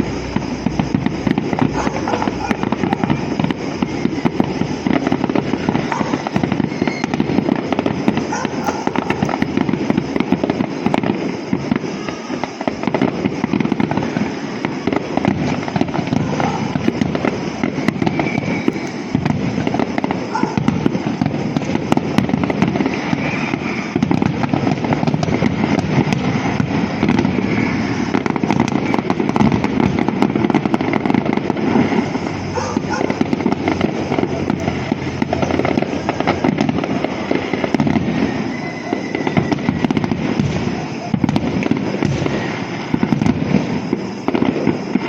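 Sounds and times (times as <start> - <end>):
fireworks popping and banging: 0.0 - 45.0.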